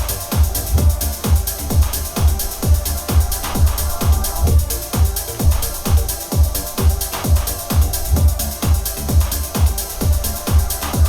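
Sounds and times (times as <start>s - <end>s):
electronic dance music: 0.0s - 11.0s
kick drum thumps: 0.0s - 11.0s.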